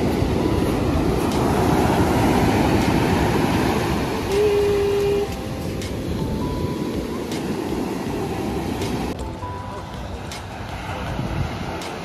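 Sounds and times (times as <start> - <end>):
wind buffeting microphone: 0.0 - 9.2, 10.3 - 12.0
ocean surf breaking: 0.0 - 12.0.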